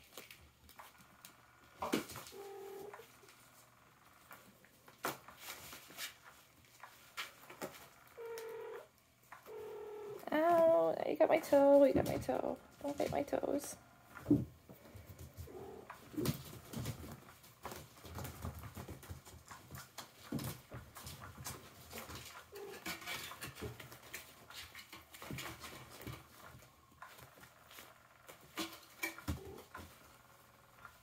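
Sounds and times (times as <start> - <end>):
kittens scuffling on carpet: 0.0 - 8.7, 11.4 - 31.0.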